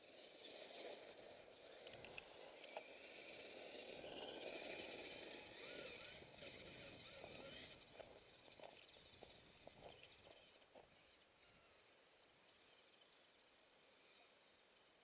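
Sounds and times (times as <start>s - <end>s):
rc truck electric motor whine: 0.0s - 15.0s.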